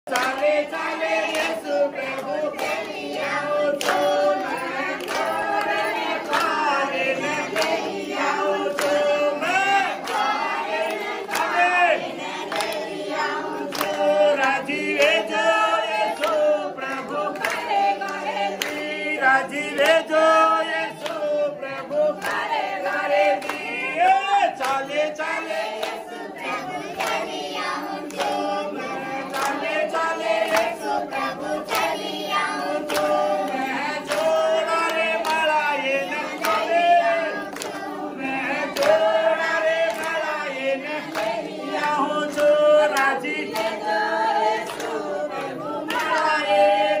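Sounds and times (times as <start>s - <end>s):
group singing worship song: 0.1s - 47.0s
hand clapping: 0.1s - 47.0s.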